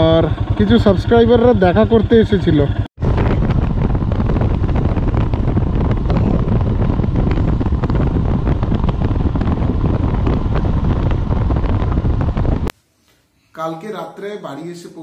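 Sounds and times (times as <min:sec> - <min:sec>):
motorcycle engine drone: 0:00.0 - 0:12.7
wind buffeting microphone: 0:00.0 - 0:12.7.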